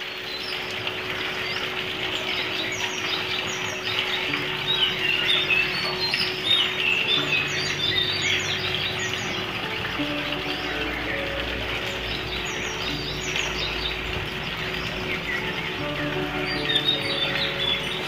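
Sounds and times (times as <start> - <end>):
runoff pouring into a bucket: 0.0 - 18.0
small birds chirping: 0.0 - 18.0
steady rain falling: 0.0 - 18.0.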